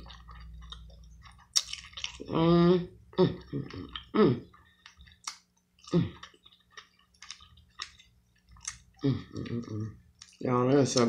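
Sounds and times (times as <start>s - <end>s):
seafood being chewed: 0.0s - 11.0s.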